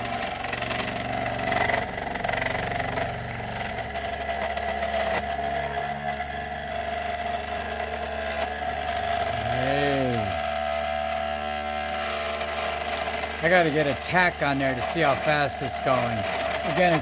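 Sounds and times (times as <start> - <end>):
motor mechanical whine with buzz: 0.0 - 17.0.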